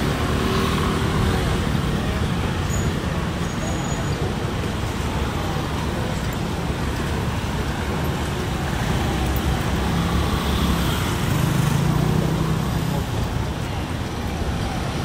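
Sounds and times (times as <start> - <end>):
street traffic road noise: 0.0 - 15.0.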